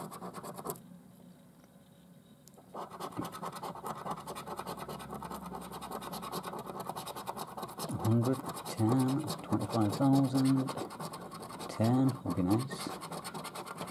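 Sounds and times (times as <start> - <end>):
coin scratching scratch card: 0.0 - 0.8, 2.7 - 13.9.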